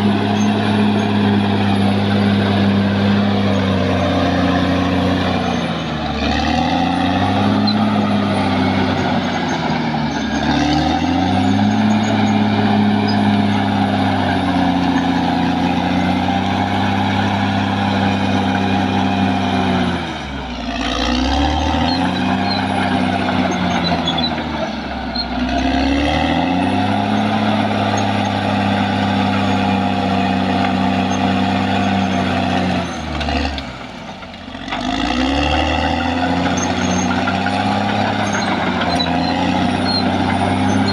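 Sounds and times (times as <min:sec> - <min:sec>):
bulldozer diesel engine running hard: 0:00.0 - 0:40.9.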